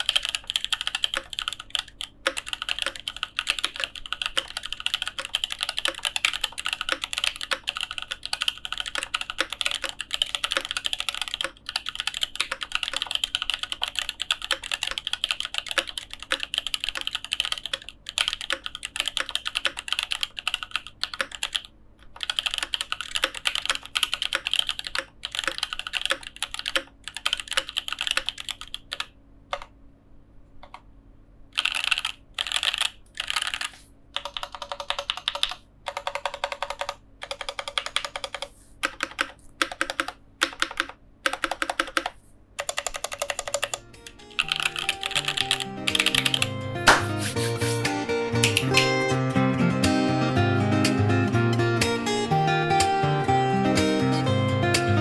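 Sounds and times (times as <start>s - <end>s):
mechanical keyboard typing: 0.0s - 29.7s, 31.6s - 43.8s, 44.4s - 47.8s, 48.4s - 49.0s.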